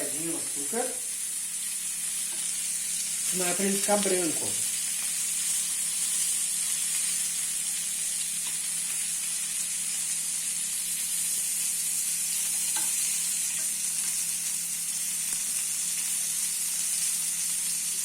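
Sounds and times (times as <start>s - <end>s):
hot pan sizzling: 0.0s - 18.0s.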